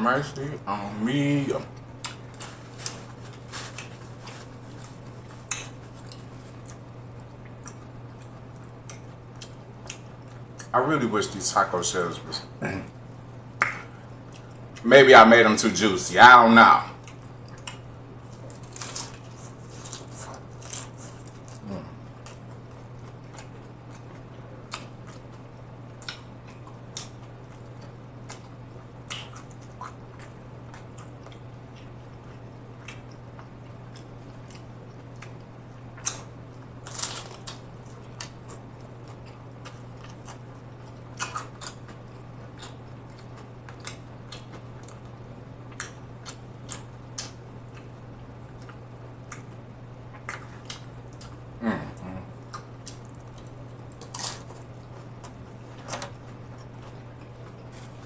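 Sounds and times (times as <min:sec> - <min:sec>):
steady low hum: 0:00.0 - 0:58.0
wet chewing: 0:01.7 - 0:10.7, 0:17.0 - 0:58.0
crunching taco shells: 0:01.8 - 0:10.7, 0:17.0 - 0:51.5, 0:52.4 - 0:58.0.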